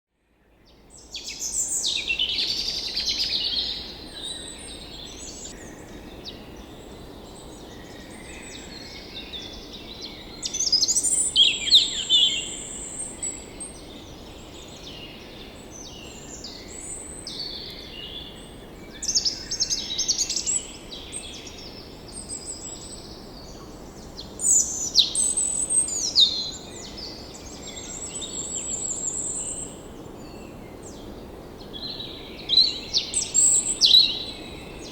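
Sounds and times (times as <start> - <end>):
songbirds chirping and trilling: 0.6 - 34.9.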